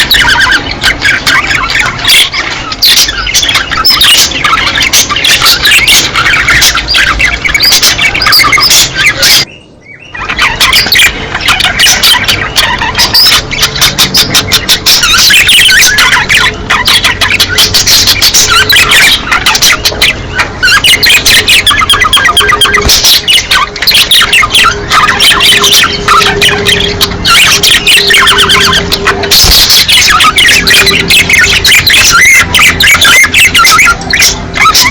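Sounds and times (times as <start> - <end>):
budgerigars chattering and warbling: 0.0 - 34.9.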